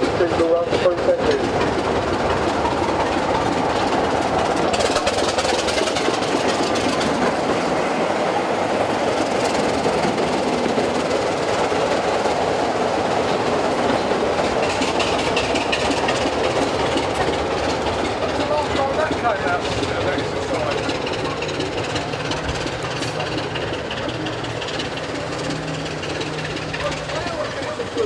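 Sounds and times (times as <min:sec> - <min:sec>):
diesel locomotive engine droning: 0:00.0 - 0:28.0.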